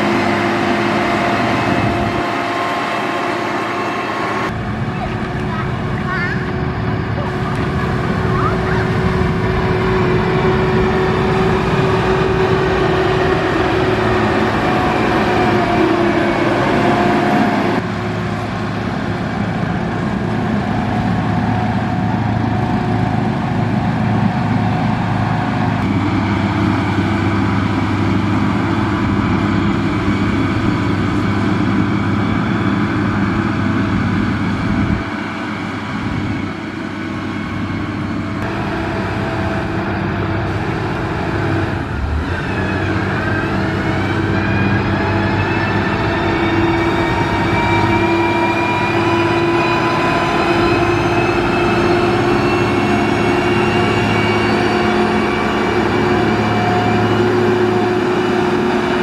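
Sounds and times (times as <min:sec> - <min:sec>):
heavy diesel machinery engines: 0:00.0 - 0:59.0.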